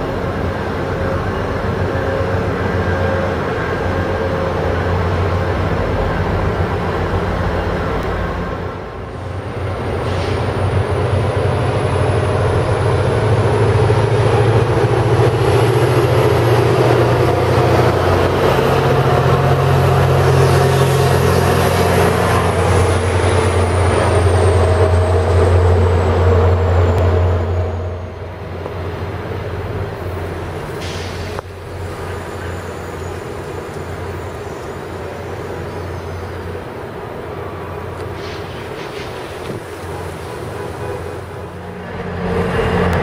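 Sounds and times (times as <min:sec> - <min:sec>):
passing train rumble: 0:00.0 - 0:43.0.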